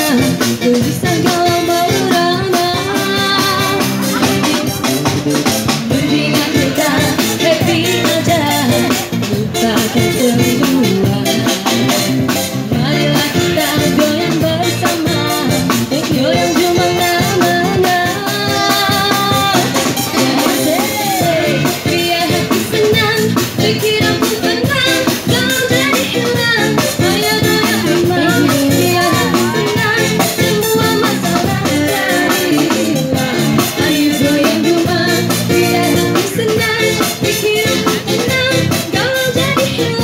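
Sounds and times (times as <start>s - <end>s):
woman singing into microphone: 0.0s - 4.9s, 5.8s - 12.0s, 12.7s - 40.0s
drum kit: 0.0s - 40.0s.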